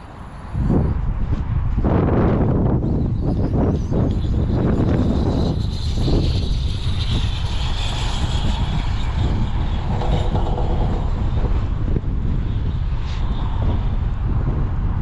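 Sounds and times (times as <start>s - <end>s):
wind buffeting microphone: 0.0s - 15.0s
wind hiss: 0.0s - 15.0s.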